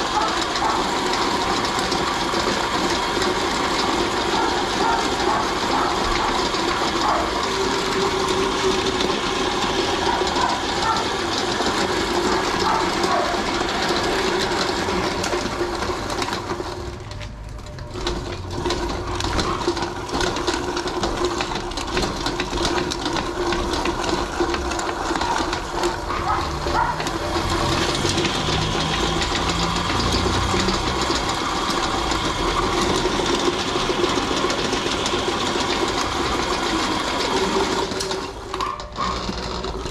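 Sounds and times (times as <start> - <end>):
meat grinder running: 0.0 - 39.9.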